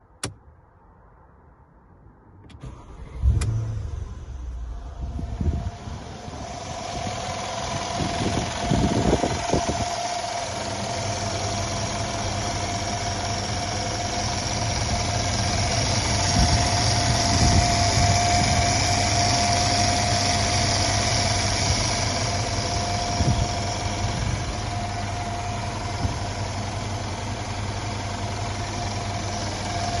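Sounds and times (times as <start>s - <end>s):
car engine idling with whine: 2.4s - 30.0s.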